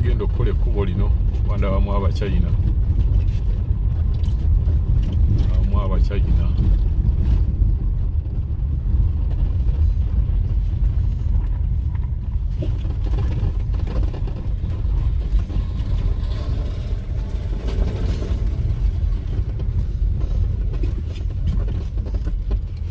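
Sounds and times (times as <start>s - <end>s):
tyres on road: 0.0s - 22.9s
vehicle engine rumble: 0.0s - 22.9s
wind: 0.0s - 22.9s.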